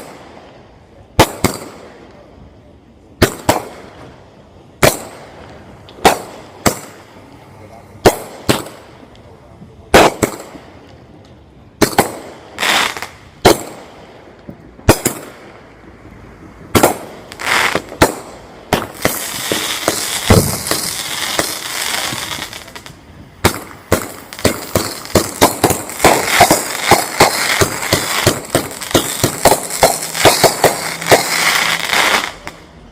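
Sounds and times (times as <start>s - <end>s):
firework barrage of bangs: 0.0s - 0.5s, 1.1s - 2.2s, 3.2s - 7.2s, 8.0s - 9.1s, 9.8s - 10.9s, 11.8s - 15.7s, 16.6s - 32.9s
firework shots: 0.0s - 7.3s, 7.9s - 16.0s, 16.6s - 32.9s
crackling hiss: 0.0s - 32.9s.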